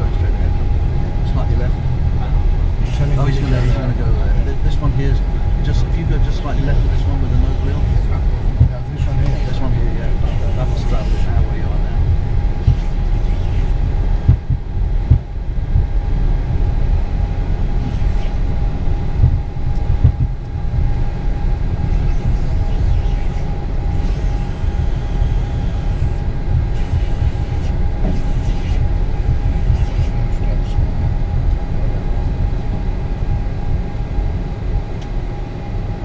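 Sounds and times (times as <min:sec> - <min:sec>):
jet engines low rumble: 0:00.0 - 0:36.0
steady whine: 0:00.0 - 0:36.0.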